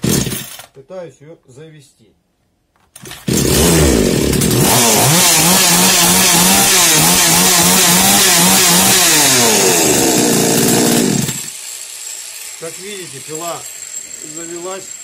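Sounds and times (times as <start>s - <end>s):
chainsaw engine running fast: 0.0s - 0.4s, 3.3s - 15.0s.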